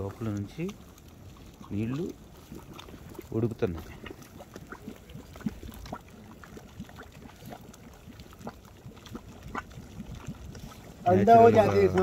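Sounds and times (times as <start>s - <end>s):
water gurgling and bubbling: 0.0s - 12.0s.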